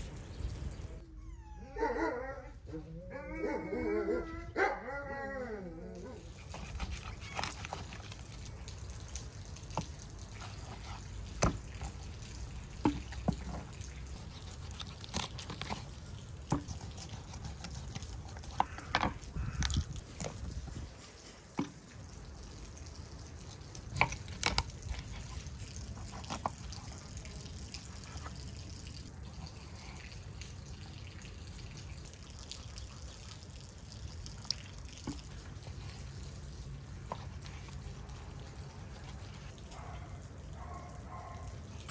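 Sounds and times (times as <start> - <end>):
wet squelchy meat handling: 6.0 - 40.4.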